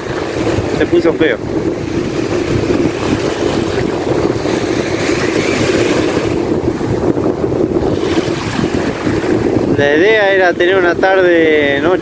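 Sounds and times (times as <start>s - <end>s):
surf on choppy sea: 0.0s - 12.0s
wind buffeting microphone: 0.0s - 12.0s.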